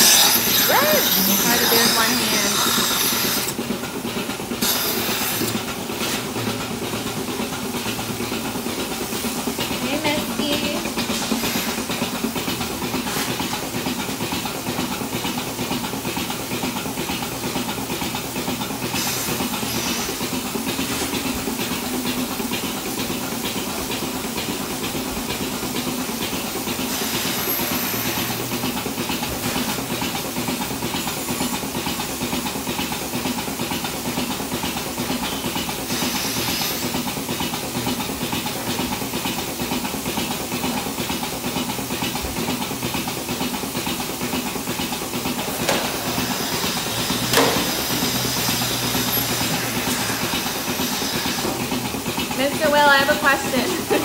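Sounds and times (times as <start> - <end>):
vacuum system hiss and hum: 0.0 - 54.0.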